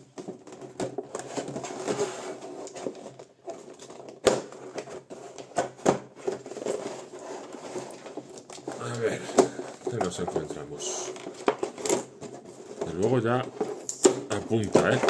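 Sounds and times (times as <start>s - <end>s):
plastic tray crinkling and clicking: 0.1s - 15.0s.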